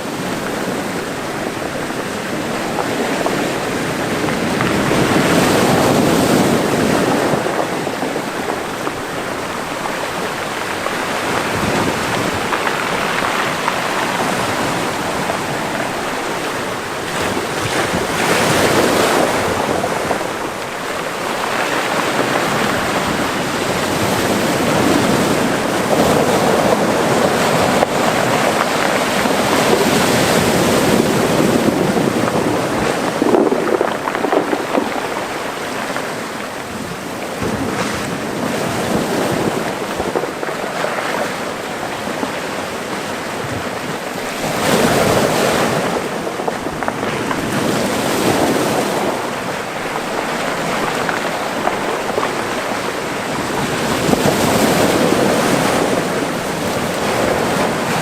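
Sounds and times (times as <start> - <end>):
waves washing into rocky cove: 0.0 - 58.0
wind on microphone: 0.0 - 58.0.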